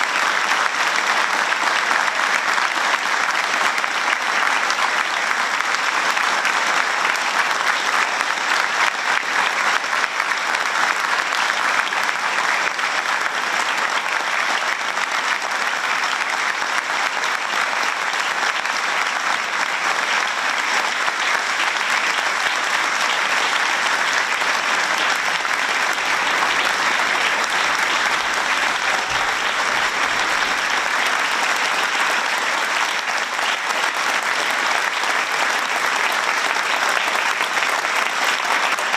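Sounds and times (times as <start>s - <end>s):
crowd applause: 0.0s - 38.9s.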